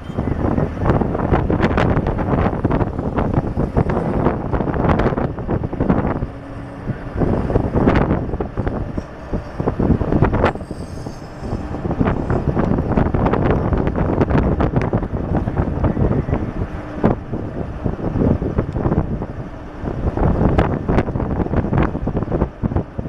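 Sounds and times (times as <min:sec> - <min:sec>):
engine and tyres droning: 0:00.0 - 0:23.0
wind buffeting microphone: 0:00.0 - 0:23.0.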